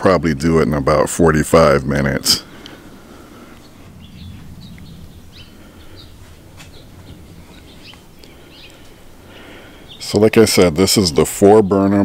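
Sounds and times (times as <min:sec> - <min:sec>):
low steady rumble: 0:00.0 - 0:10.8
small birds chirping: 0:01.7 - 0:12.0.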